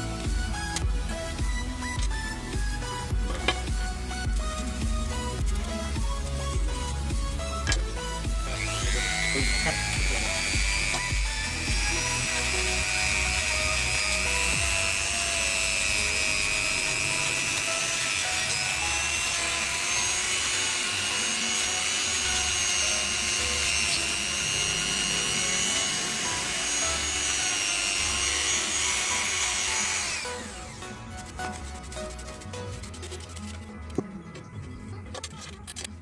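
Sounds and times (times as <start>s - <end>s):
rotary tool grinding wood: 0.0s - 34.0s.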